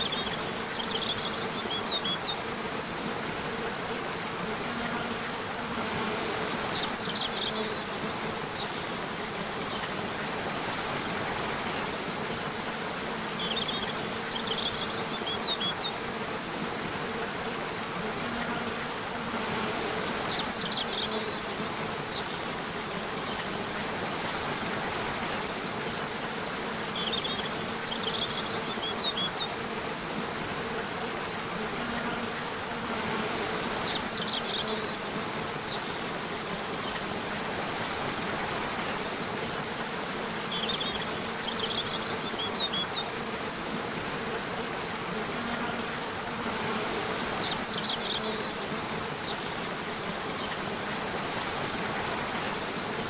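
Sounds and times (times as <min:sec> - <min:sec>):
background hiss: 0:00.0 - 0:53.0
insects buzzing: 0:00.0 - 0:53.0.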